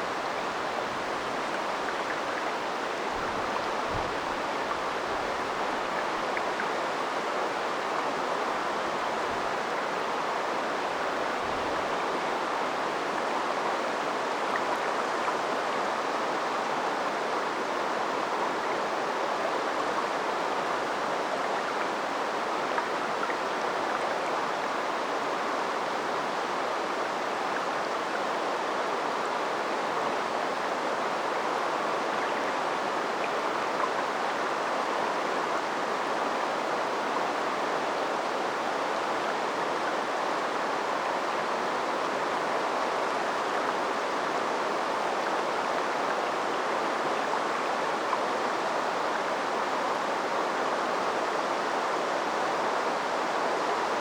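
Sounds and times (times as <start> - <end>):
shallow river flowing: 0.0 - 54.0.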